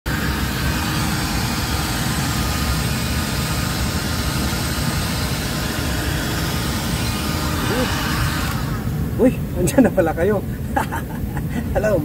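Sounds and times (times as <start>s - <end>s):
heat gun fan whirring: 0.1s - 11.3s.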